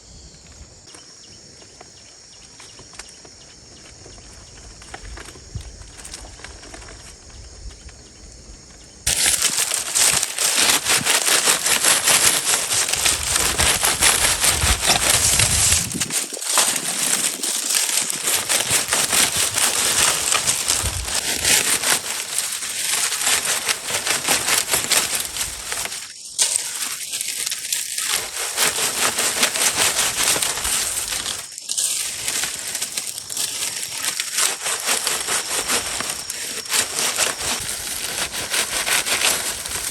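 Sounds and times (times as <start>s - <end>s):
dense crackling and crunching: 3.8s - 39.9s.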